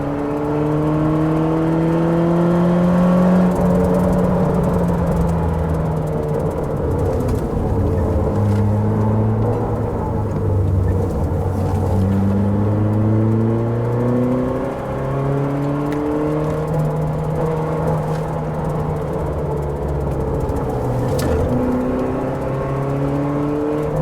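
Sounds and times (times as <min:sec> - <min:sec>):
car engine revving under load: 0:00.0 - 0:24.0
road and tyre noise: 0:00.0 - 0:24.0.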